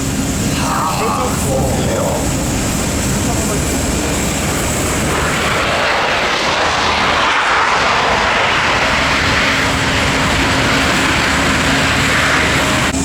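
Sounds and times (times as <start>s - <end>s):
helicopter in flight: 0.0s - 13.0s.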